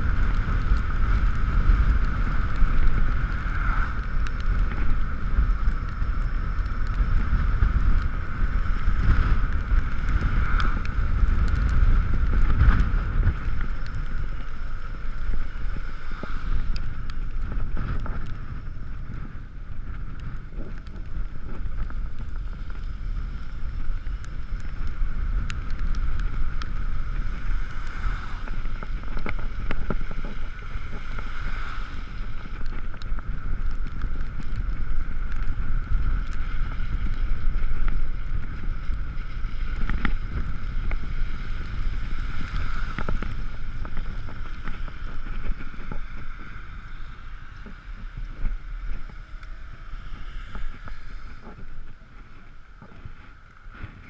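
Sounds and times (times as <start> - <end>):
wet road noise: 0.0 - 54.0
wind on microphone: 0.0 - 54.0.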